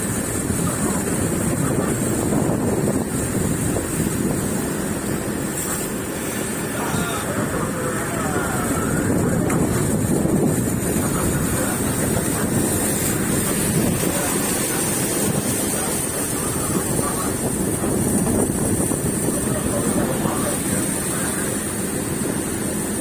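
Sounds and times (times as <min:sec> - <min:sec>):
boat engine running: 0:00.0 - 0:23.0
water rushing past: 0:00.0 - 0:23.0
wind buffeting microphone: 0:00.0 - 0:23.0.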